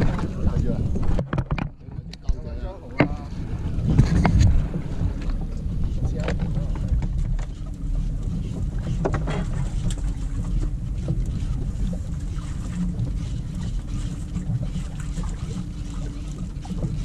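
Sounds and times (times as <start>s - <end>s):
boat engine rumbling: 0.0s - 17.0s
wind buffeting microphone: 0.0s - 17.0s.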